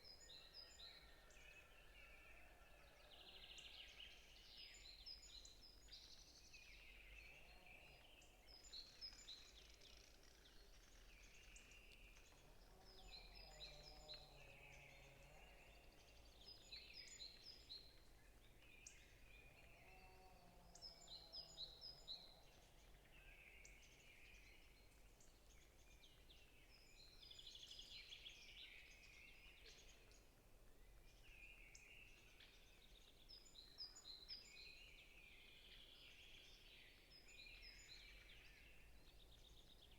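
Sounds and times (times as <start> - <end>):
birds chirping softly: 0.0 - 39.9.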